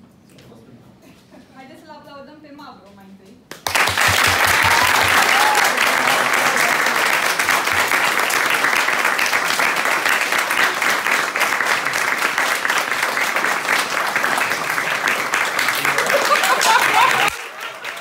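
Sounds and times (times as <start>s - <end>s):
crowd applauding: 3.5s - 18.0s.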